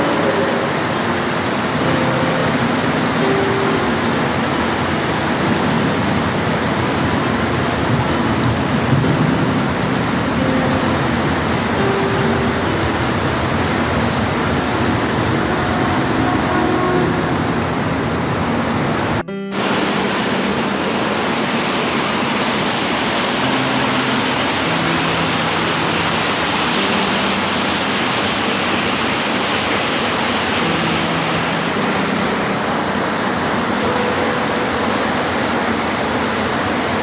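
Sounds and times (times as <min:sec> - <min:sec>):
heavy rainfall: 0:00.0 - 0:37.0.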